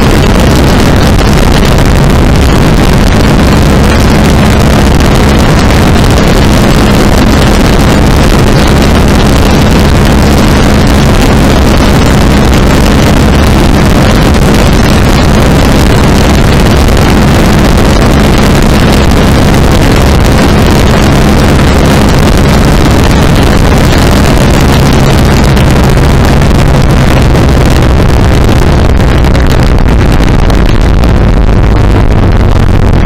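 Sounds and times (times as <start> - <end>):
go-kart engine running: 0.0 - 33.0.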